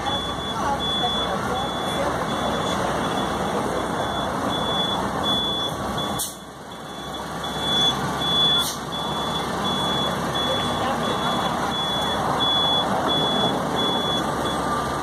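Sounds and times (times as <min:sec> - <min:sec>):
high electronic beeps: 0:00.0 - 0:14.9
road train engine and rolling: 0:00.0 - 0:15.0.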